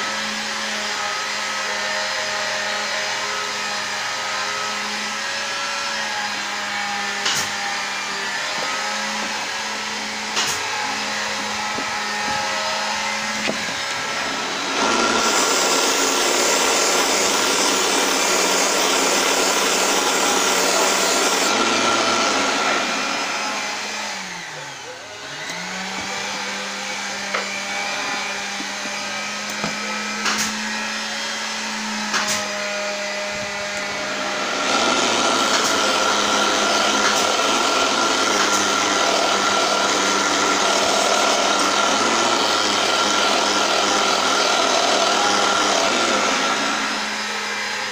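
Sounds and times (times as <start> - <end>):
lathe motor whining: 0.0 - 47.9.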